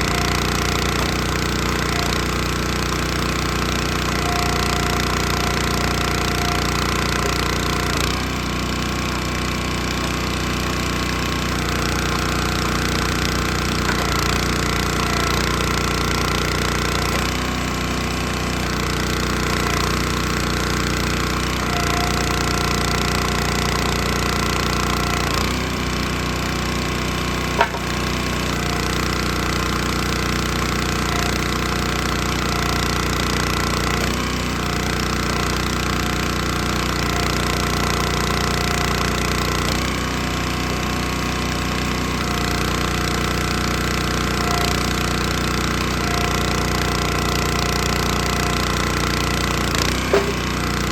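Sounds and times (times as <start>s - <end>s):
small gas engine running: 0.0s - 50.9s.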